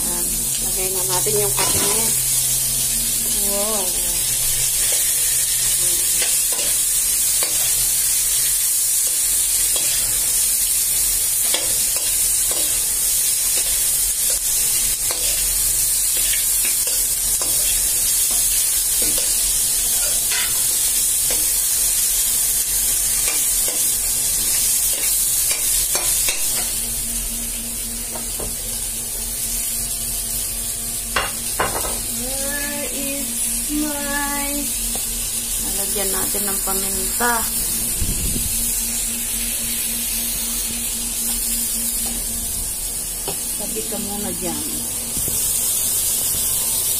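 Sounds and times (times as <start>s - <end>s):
meat sizzling in a wok: 0.0s - 46.9s.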